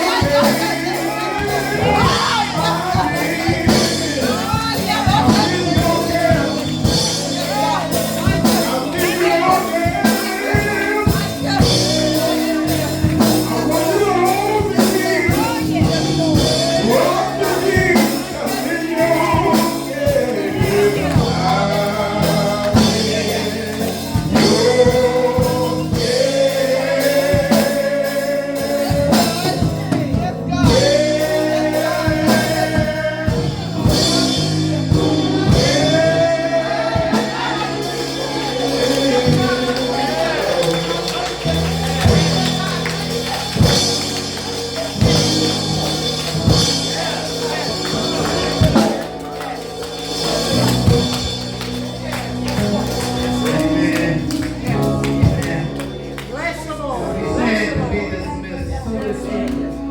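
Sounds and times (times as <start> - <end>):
gospel singing with band: 0.0 - 59.9.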